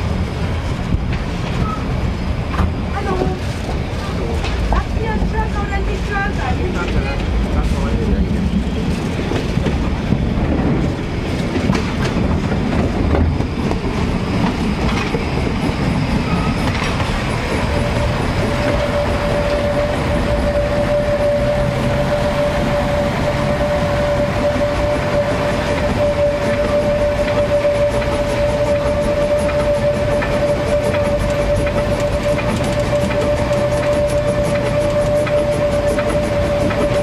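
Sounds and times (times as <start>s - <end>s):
high steady squeal: 0.0s - 37.0s
train wheels clattering over rail joints: 0.5s - 37.0s.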